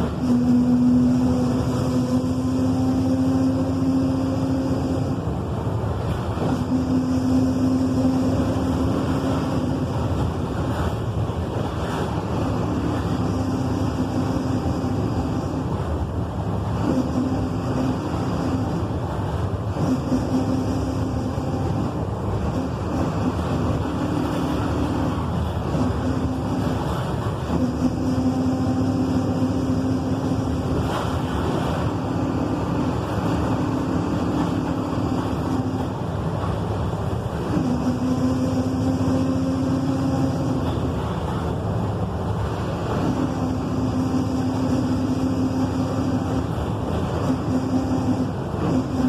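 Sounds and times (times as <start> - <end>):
bus diesel engine running: 0.0 - 49.0
humming tone: 0.0 - 49.0.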